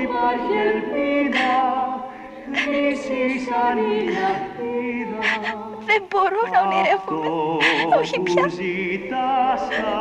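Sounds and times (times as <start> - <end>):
choir singing slow held notes: 0.0 - 10.0.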